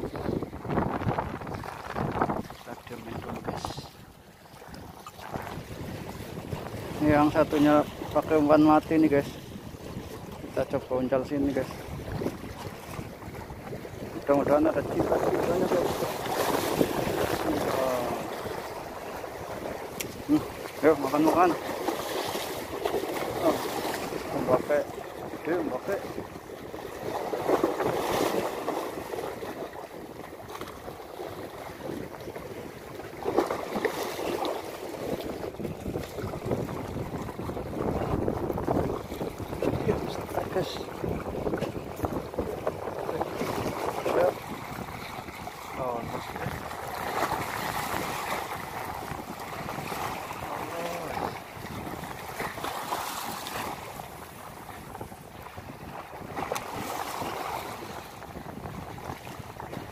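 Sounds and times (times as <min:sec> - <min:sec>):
waves splashing against rocks: 0:00.0 - 0:59.9
wind buffeting microphone: 0:00.0 - 0:59.9.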